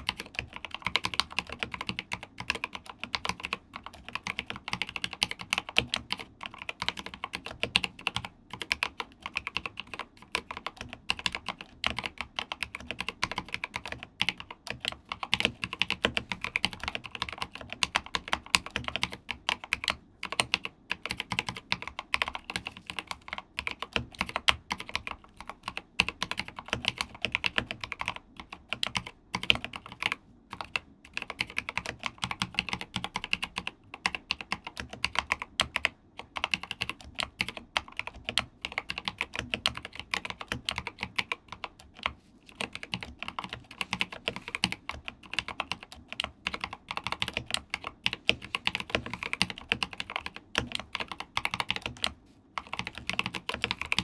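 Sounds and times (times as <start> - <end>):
mechanical keyboard keystroke clacks: 0.0 - 54.0.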